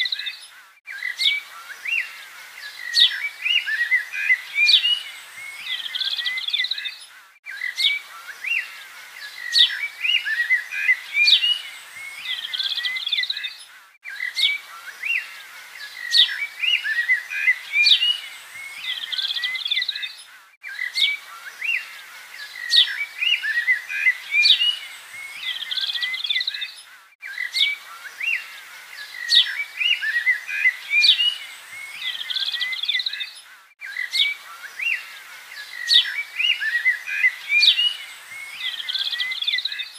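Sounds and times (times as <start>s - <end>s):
birdsong chirps and whistles: 0.0s - 39.9s.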